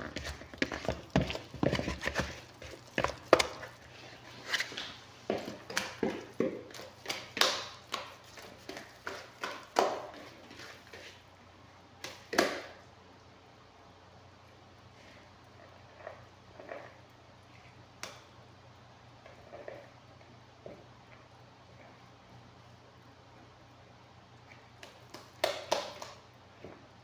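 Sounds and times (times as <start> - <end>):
dough being kneaded by hand: 0.0 - 12.9, 14.5 - 27.0.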